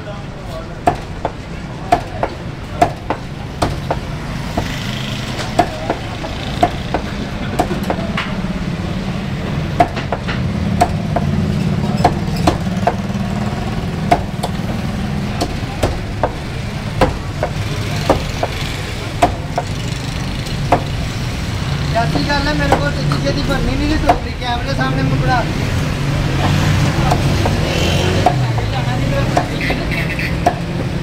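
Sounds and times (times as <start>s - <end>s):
cleaver chopping on wooden block: 0.8s - 8.5s, 9.7s - 21.4s, 22.0s - 24.4s, 26.4s - 31.0s.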